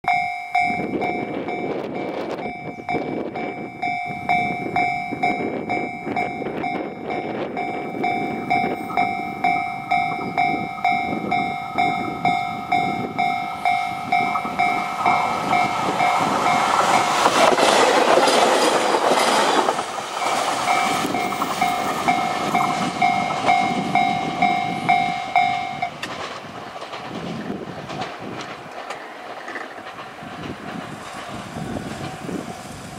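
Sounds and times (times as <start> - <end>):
train rumble and wheel clatter: 0.1 - 32.9.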